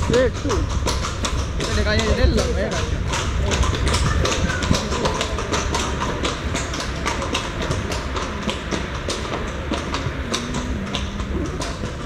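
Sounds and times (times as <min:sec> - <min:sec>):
horse hooves clip-clopping: 0:00.0 - 0:12.0
steady low rumble: 0:00.0 - 0:12.0.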